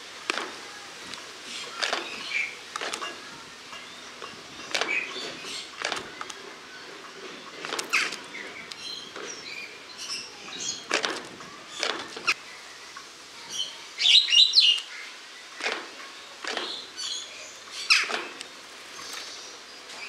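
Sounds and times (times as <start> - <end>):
starling chirping and calling: 1.3 - 12.4, 13.4 - 20.0.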